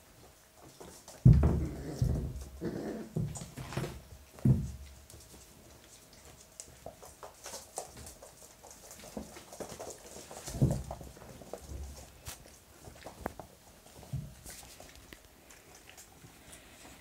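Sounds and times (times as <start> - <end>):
puppies scuffling paws on mat: 0.0 - 17.0.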